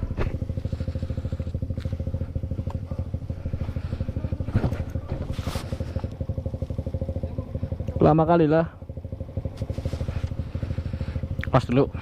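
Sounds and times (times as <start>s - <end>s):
two-stroke motorcycle engine idling: 0.0s - 12.0s.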